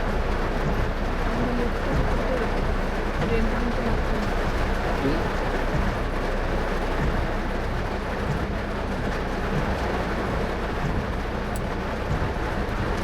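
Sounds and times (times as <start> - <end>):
heavy rain: 0.0 - 13.0
tyre noise on wet road: 0.0 - 13.0.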